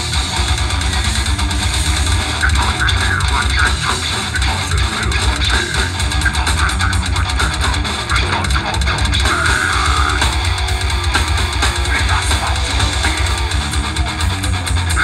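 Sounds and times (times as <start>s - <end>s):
bass guitar: 0.0s - 15.0s
distorted electric guitar: 0.0s - 15.0s
fast dense drumming: 0.0s - 15.0s.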